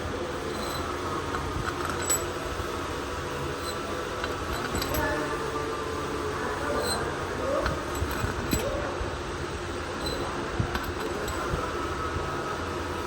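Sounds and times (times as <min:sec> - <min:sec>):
workshop hum: 0:00.0 - 0:13.0.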